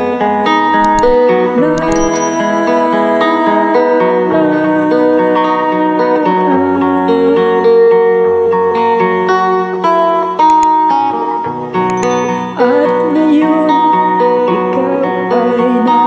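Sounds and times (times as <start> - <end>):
instrumental plucked guitar music: 0.0 - 16.0.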